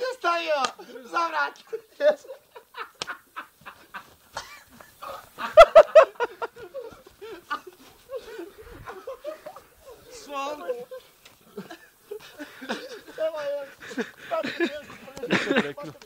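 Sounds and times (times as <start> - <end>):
men laughing: 0.0 - 16.0
men yelping: 0.0 - 16.0.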